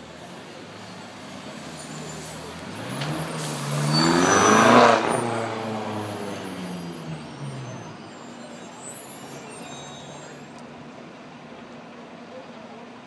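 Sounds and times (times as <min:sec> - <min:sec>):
car passing and driving off: 0:00.0 - 0:11.4
street traffic noise: 0:00.0 - 0:13.0.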